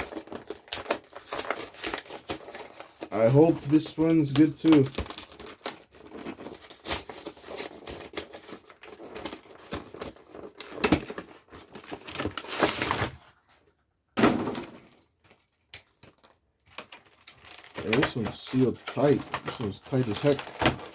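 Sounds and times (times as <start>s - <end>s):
foil wrapper crinkling: 0.0s - 13.2s, 15.2s - 20.9s.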